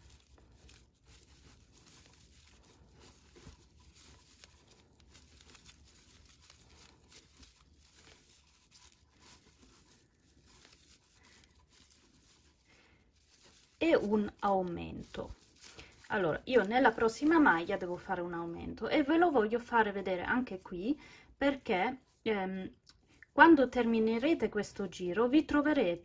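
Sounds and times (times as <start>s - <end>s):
crinkling rustle of yarn: 0.0s - 26.0s.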